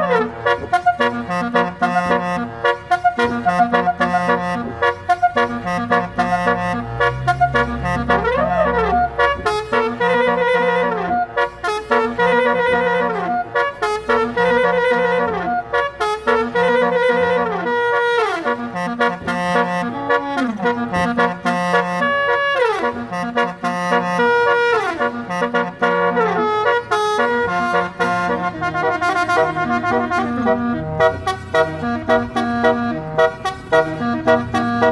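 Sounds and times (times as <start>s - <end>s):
electronic bus horn melody: 0.0s - 34.9s.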